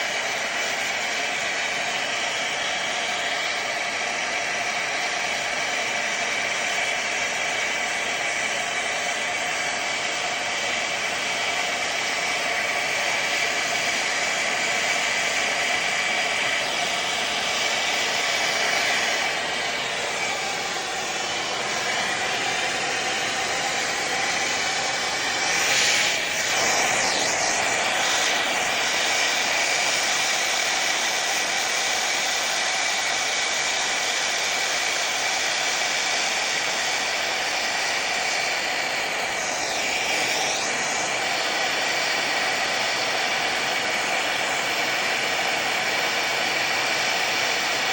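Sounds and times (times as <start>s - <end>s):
torch burning with rushing hiss: 0.0s - 47.9s.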